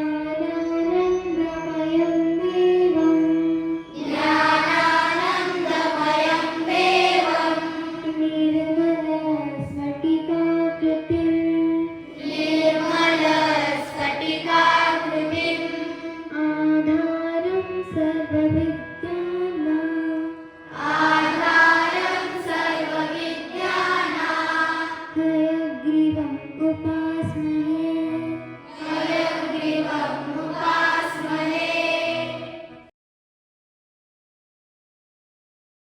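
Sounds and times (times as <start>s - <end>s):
children singing to music: 0.0s - 32.9s.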